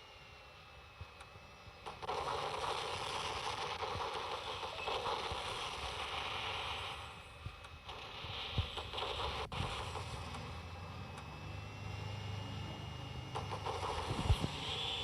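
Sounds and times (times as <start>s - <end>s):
jet engine whine: 0.0s - 15.0s
jet engine roar: 1.4s - 15.0s.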